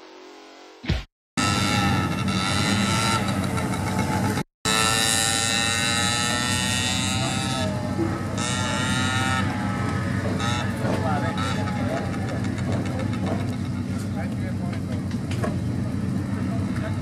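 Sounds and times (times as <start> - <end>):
small engine running: 1.4 - 17.0.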